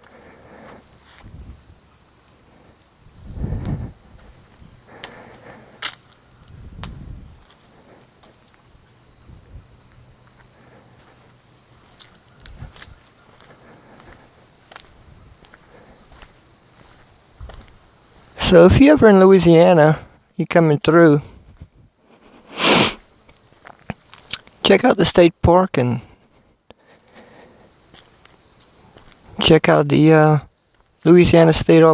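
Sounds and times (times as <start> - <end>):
insects trilling: 0.0 - 31.9.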